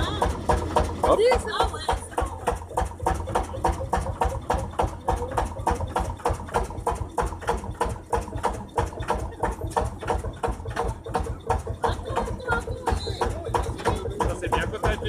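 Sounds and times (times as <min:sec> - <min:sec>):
tractor engine knocking: 0:00.0 - 0:15.0.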